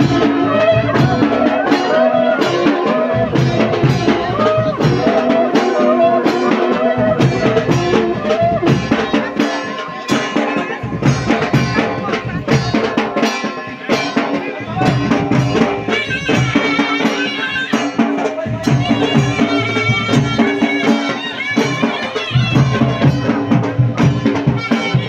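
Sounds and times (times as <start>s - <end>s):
drums beating: 0.0s - 25.0s
wind instrument melody: 0.0s - 25.0s.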